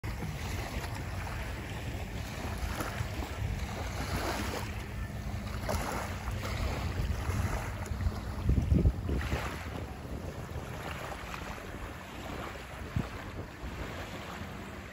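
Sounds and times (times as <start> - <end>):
small waves lapping: 0.0 - 14.9
wind buffeting microphone: 0.0 - 14.9.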